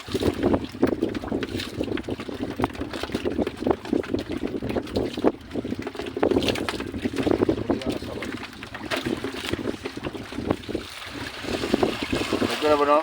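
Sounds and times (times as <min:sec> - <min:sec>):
water splashing and sloshing: 0:00.0 - 0:13.0
wind buffeting microphone: 0:00.0 - 0:13.0.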